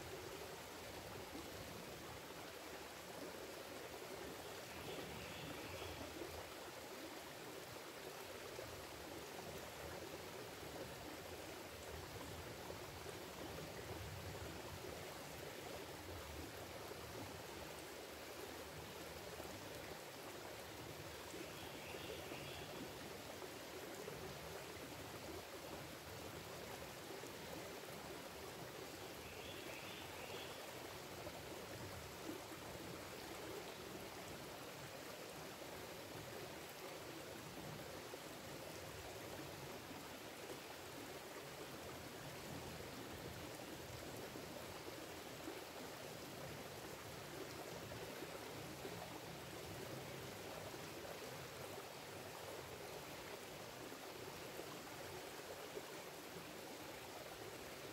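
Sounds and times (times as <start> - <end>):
creek babbling over rocks: 0.0 - 57.9.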